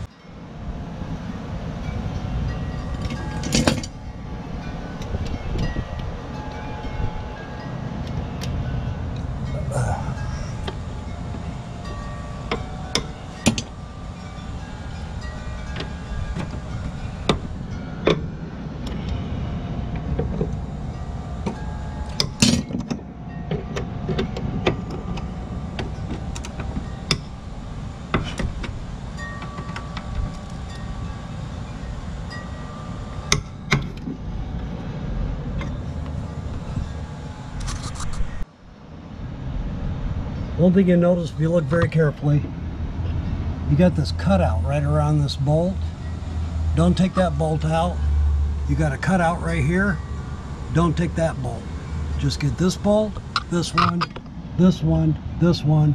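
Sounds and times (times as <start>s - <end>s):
low background hum: 0.0s - 55.9s.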